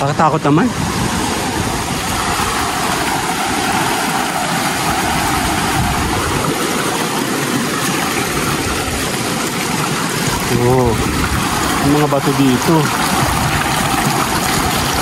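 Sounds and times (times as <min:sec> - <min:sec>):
river water rushing over rocks: 0:00.0 - 0:15.0.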